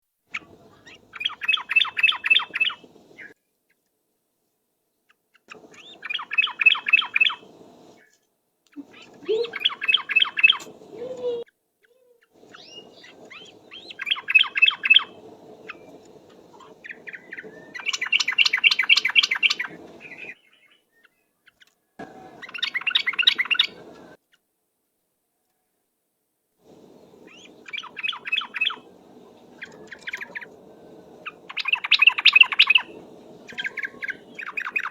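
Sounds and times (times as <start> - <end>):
bulbul singing rolling song: 0.2 - 3.4, 5.4 - 21.2, 22.0 - 24.2, 26.6 - 34.9.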